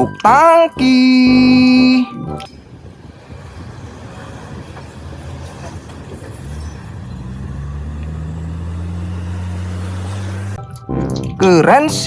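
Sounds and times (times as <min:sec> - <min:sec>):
truck engine rumbling: 0:00.0 - 0:10.7.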